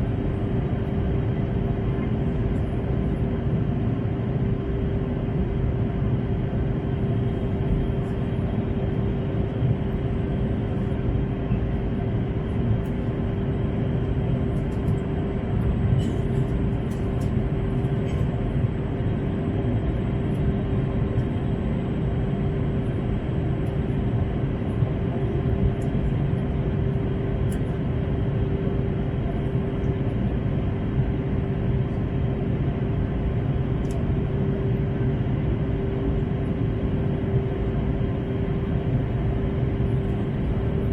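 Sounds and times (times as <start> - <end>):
jet cabin engine rumble: 0.0 - 40.9.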